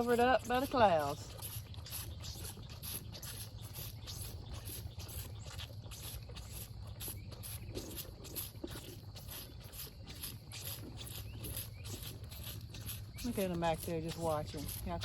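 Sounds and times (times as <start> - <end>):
cattle tearing and chewing grass: 0.0 - 15.0.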